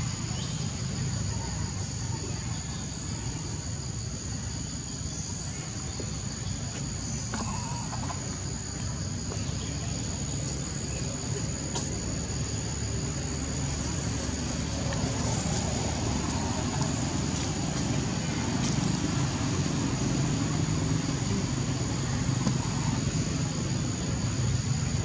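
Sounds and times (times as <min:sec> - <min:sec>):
distant engine rumble: 0:00.0 - 0:25.0.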